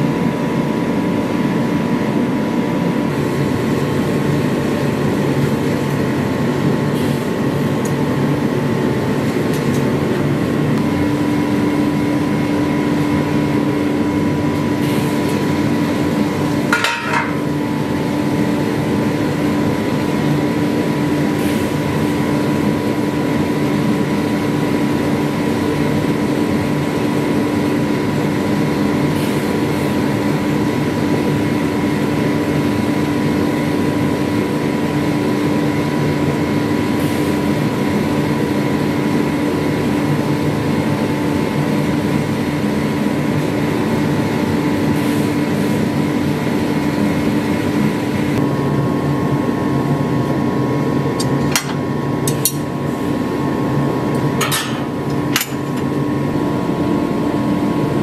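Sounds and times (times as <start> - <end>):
low machine tone: 0.0 - 58.0
machine humming and whining: 0.0 - 58.0.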